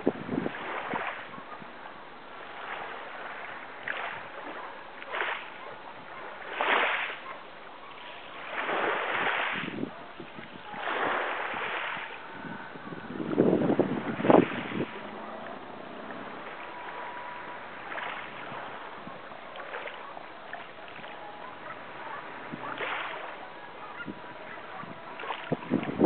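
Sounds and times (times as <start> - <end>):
water splashing in surges: 0.0 - 26.0.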